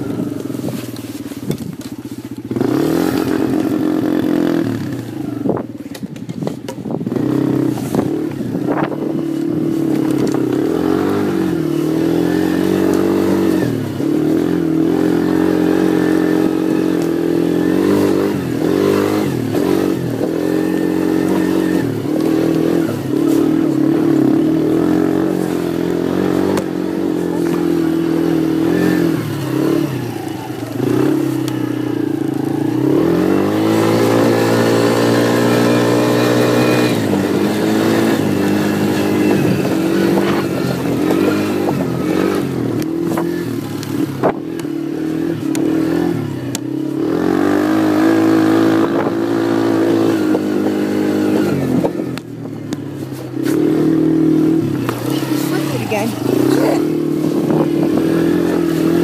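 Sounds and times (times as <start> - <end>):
quad bike engine under load: 0.0 - 59.0.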